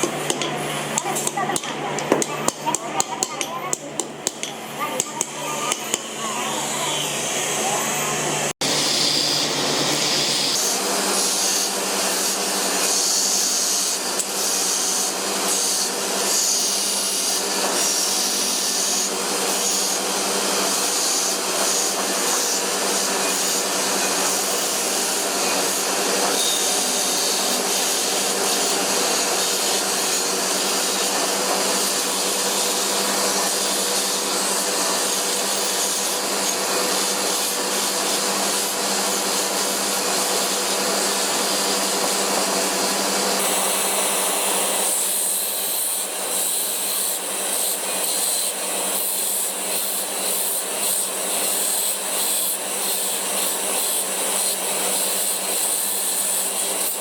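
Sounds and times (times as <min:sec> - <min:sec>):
power tool grinding steel: 0:00.0 - 0:57.0.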